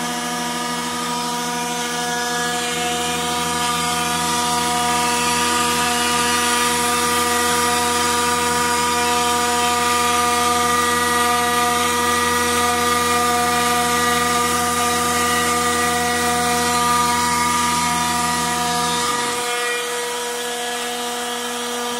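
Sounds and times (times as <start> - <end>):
router spindle whine: 0.0 - 21.9.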